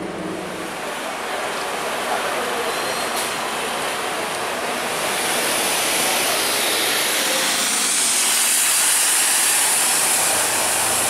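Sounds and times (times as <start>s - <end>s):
bus engine pulling away: 0.0s - 11.0s
loud steady hiss: 0.0s - 11.0s.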